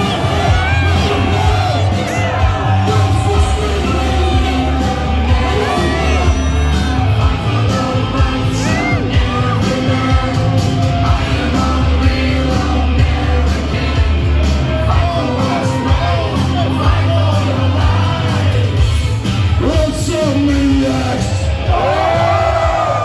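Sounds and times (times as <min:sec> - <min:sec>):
loud music with singing: 0:00.0 - 0:23.0
people yelling and whooping: 0:00.0 - 0:23.0.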